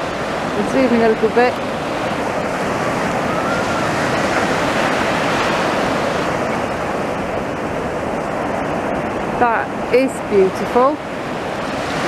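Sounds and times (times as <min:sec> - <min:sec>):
sea waves breaking on sand: 0:00.0 - 0:12.0.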